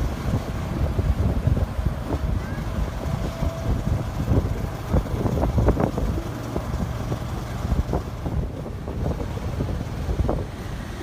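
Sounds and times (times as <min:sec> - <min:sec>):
road traffic rumbling: 0:00.0 - 0:11.0
wind buffeting microphone: 0:00.0 - 0:11.0.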